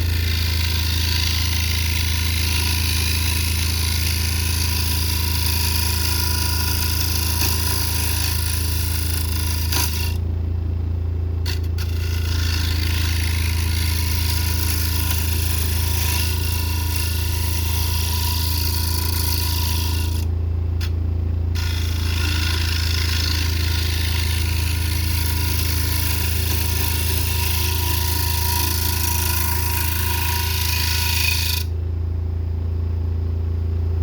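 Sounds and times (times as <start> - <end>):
turning tool scraping wood: 0.0 - 10.2, 11.4 - 21.0, 21.6 - 31.7
wood lathe motor hum: 0.0 - 10.3, 11.4 - 21.0, 21.6 - 31.8.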